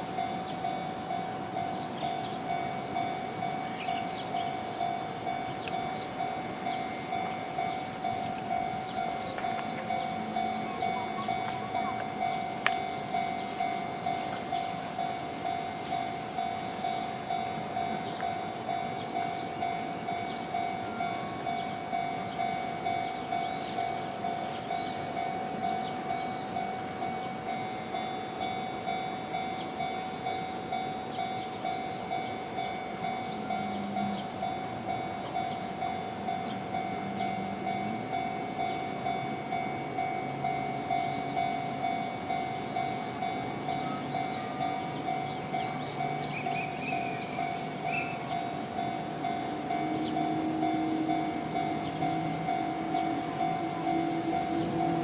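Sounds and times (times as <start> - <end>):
level crossing alarm bell ringing: 0.0 - 55.0.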